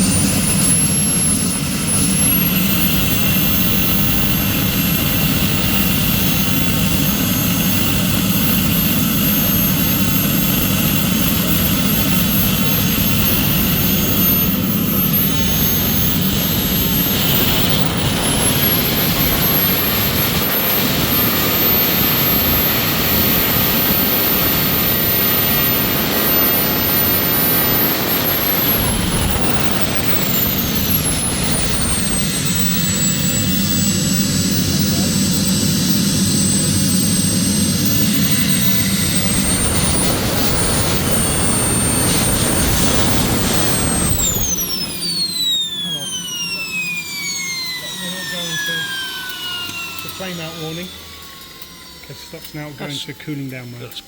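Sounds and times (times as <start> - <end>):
jet turbine rush and whine: 0.0 - 54.0.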